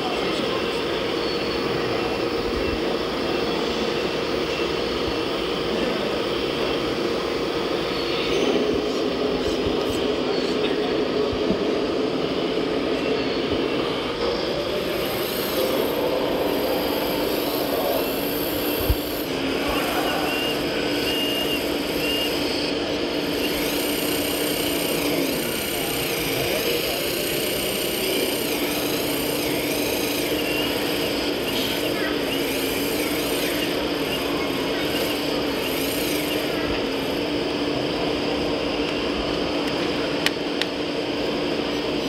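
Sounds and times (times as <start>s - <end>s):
hydraulic pump whining: 0.0s - 42.0s.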